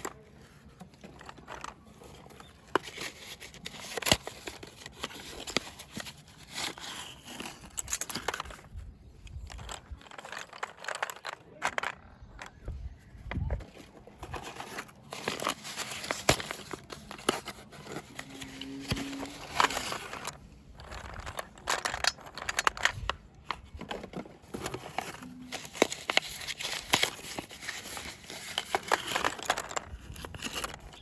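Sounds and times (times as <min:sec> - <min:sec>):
packaging crinkling and tearing: 0:00.0 - 0:08.8, 0:13.8 - 0:31.0.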